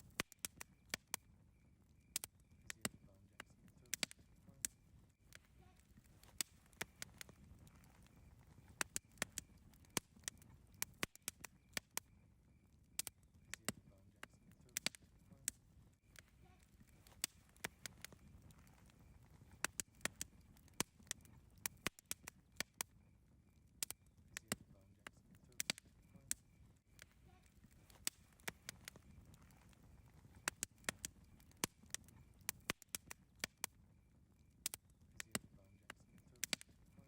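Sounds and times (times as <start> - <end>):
campfire pops and snaps: 0.0 - 37.0
low rumble of burning: 0.0 - 37.0.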